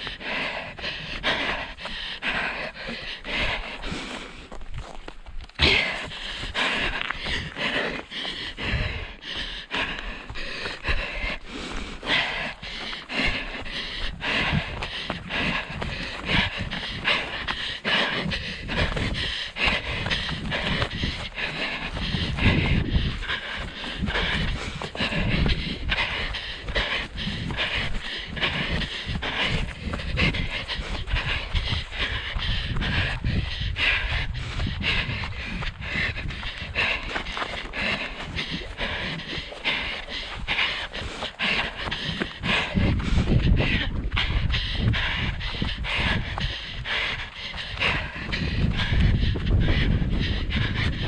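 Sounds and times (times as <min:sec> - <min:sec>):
runner panting: 0:00.0 - 0:51.0
wind rumble on microphone: 0:00.0 - 0:51.0.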